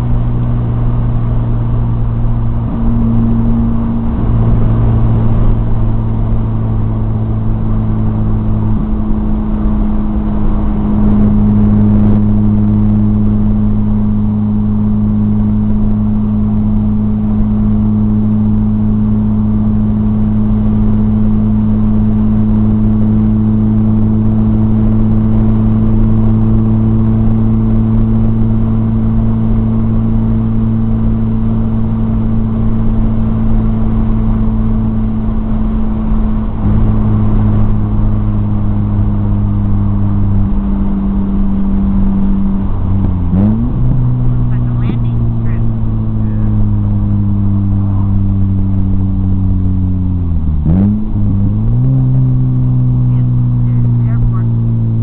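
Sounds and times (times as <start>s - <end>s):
car engine drone from inside: 0.0s - 55.0s.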